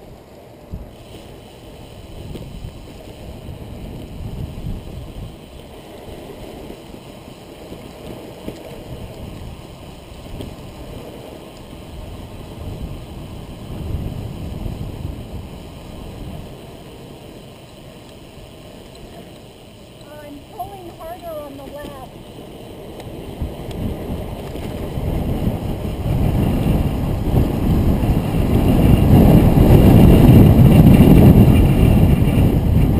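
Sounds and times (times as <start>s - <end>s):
tyres rolling on asphalt: 0.0s - 32.9s
wind buffeting microphone: 0.0s - 32.9s.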